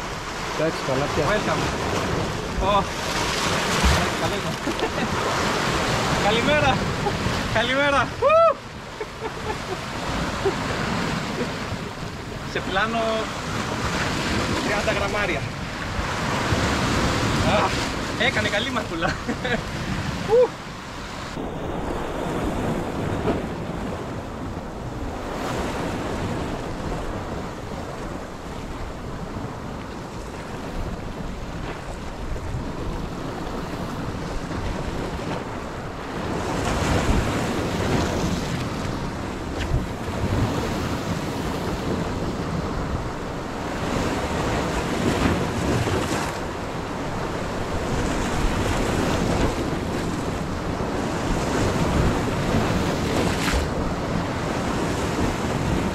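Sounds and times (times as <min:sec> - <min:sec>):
surf breaking over rocks: 0:00.0 - 0:55.9
wind buffeting microphone: 0:00.0 - 0:55.9.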